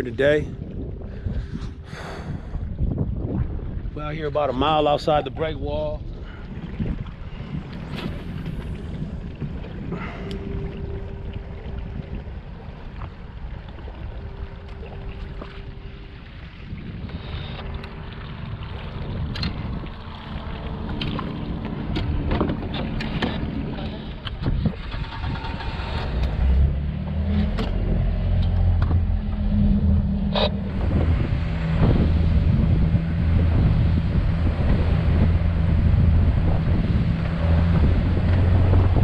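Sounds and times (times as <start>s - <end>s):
motorboat engine running: 0.0s - 39.0s.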